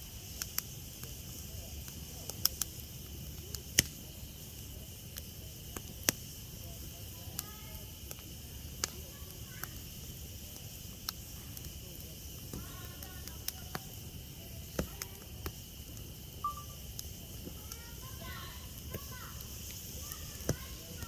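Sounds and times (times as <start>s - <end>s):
campfire wood crackling: 0.0s - 21.0s.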